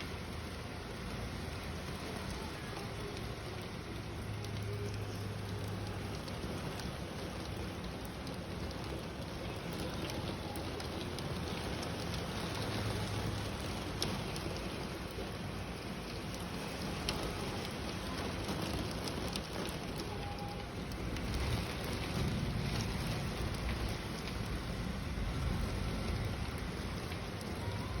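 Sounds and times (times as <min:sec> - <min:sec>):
heavy rain hissing: 0:00.0 - 0:28.0
raindrops ticking on surfaces: 0:00.0 - 0:28.0.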